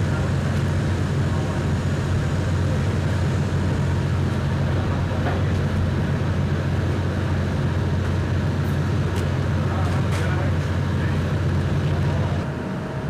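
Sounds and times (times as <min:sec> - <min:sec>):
diesel generator running: 0:00.0 - 0:13.0.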